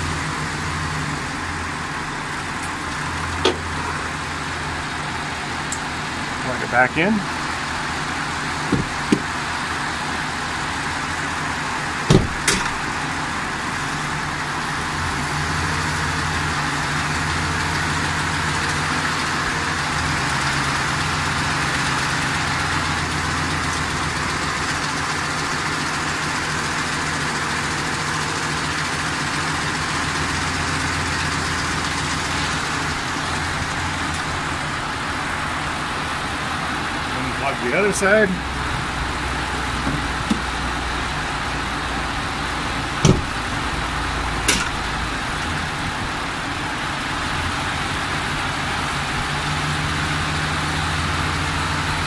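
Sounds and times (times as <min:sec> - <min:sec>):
engine running: 0:00.0 - 0:52.0
engine ticking: 0:00.0 - 0:52.0.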